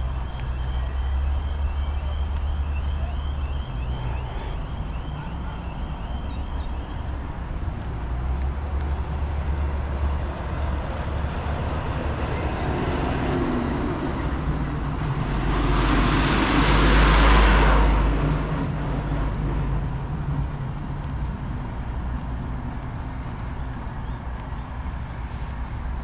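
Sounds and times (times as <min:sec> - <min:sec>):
low traffic rumble: 0:00.0 - 0:26.0
motor vehicle passing: 0:00.0 - 0:26.0.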